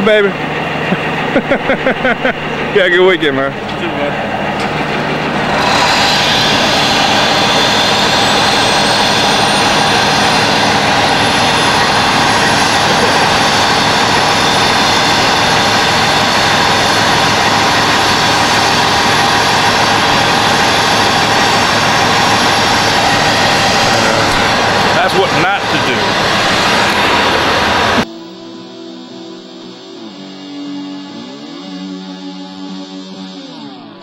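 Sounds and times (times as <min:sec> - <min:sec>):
gas hissing with high whistle: 0:05.8 - 0:34.0.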